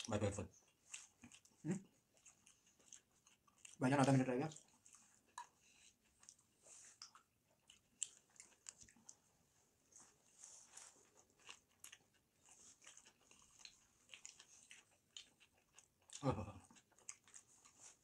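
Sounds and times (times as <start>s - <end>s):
chewing soft bread: 0.0s - 18.0s.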